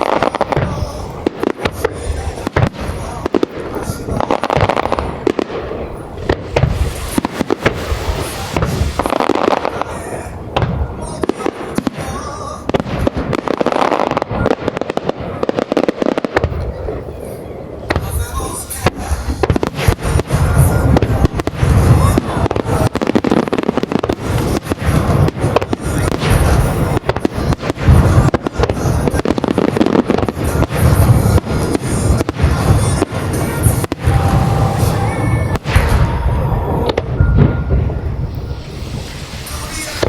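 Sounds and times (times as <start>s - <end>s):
crackles of fireworks: 0.0s - 40.0s.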